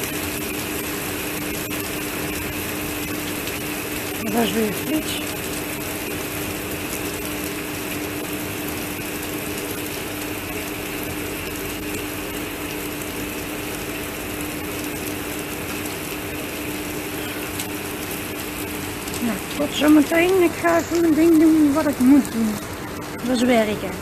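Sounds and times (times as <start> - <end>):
rain and hail clattering on roofing: 0.0 - 24.0.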